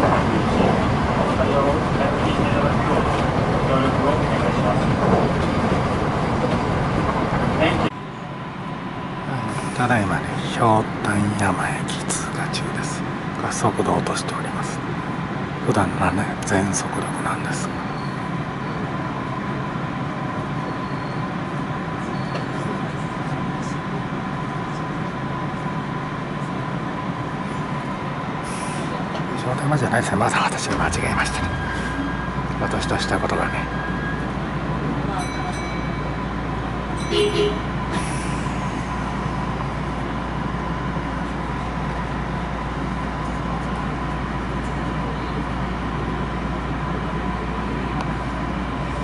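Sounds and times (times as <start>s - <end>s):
train rumble and rolling noise: 0.0s - 49.0s.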